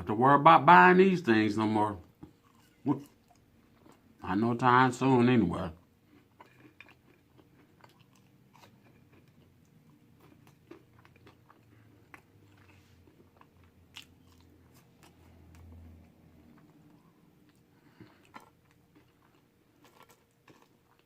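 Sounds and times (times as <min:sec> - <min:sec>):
chewing and biting food: 0:02.0 - 0:04.4, 0:05.6 - 0:21.0.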